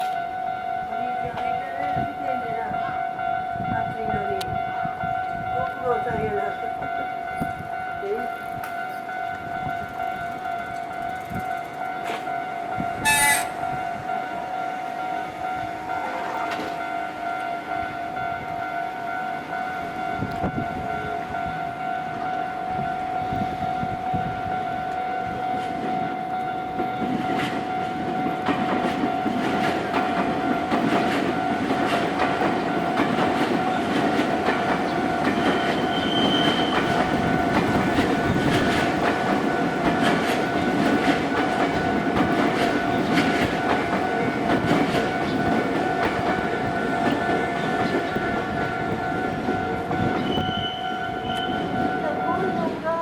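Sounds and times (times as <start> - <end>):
level crossing alarm: 0.0 - 53.0
train passing with wheel clicks: 0.0 - 53.0.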